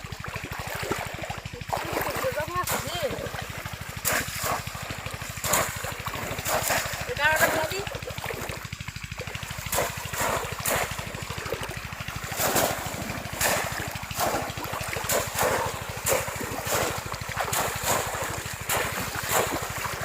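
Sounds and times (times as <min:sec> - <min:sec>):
fast low pulsing: 0:00.0 - 0:20.0
water splashing in river: 0:00.0 - 0:20.0.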